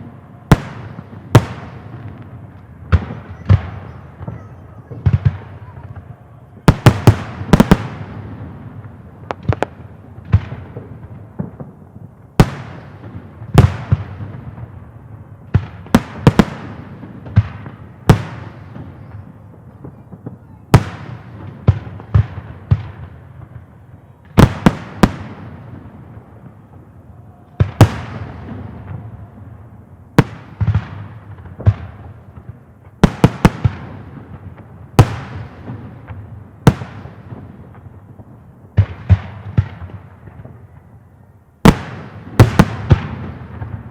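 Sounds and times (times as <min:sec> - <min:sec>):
fireworks bangs with rumbling echo: 0:00.0 - 0:43.9.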